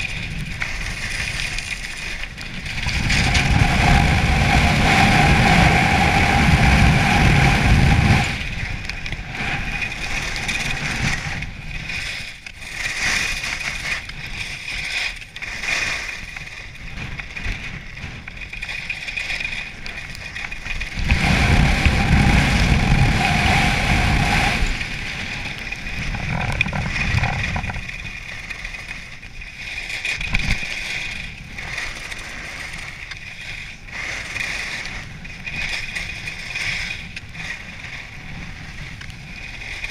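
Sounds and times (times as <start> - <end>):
skis scraping on packed snow: 0.0 - 39.9
wind rushing over microphone: 0.0 - 39.9.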